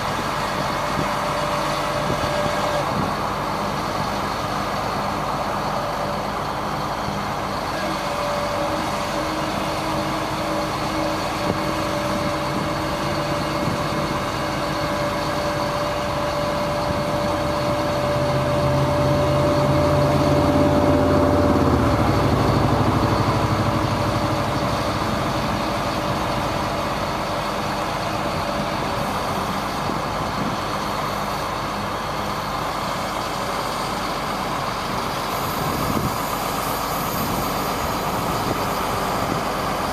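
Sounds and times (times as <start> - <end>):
thin steady whine: 0.0 - 39.9
truck engine running: 0.0 - 39.9.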